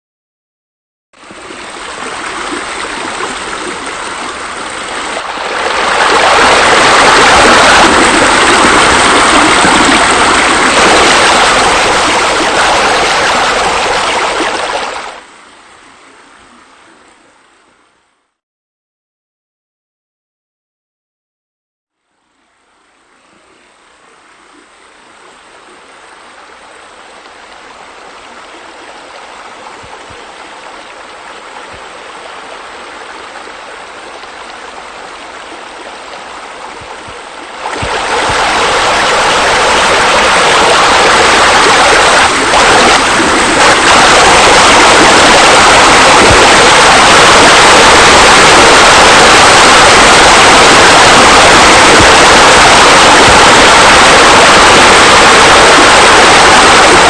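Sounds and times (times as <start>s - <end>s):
water rushing and splashing: 1.2s - 15.4s, 24.5s - 57.0s.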